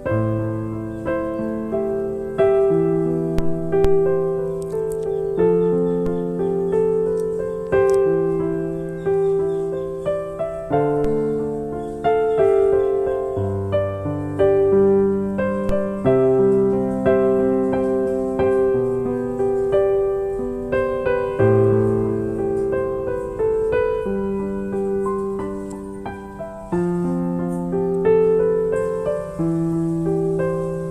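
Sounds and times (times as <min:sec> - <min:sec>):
slow piano music: 0:00.0 - 0:30.9.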